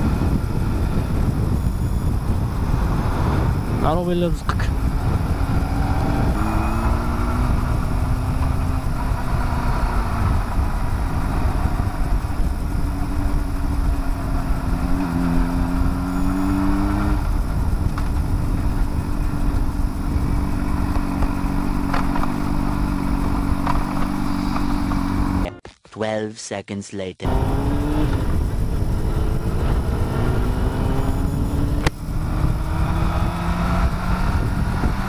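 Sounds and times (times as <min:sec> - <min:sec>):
wind rush on microphone: 0:00.0 - 0:25.5, 0:27.2 - 0:35.0
motorcycle engine running: 0:00.0 - 0:25.6, 0:27.2 - 0:35.0.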